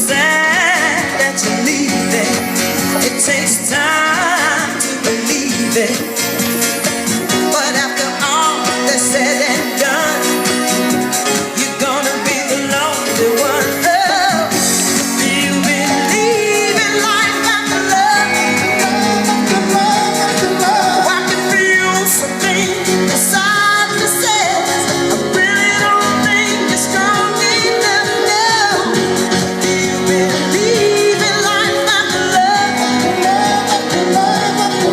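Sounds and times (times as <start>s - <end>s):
pop song with singing: 0.0s - 34.9s.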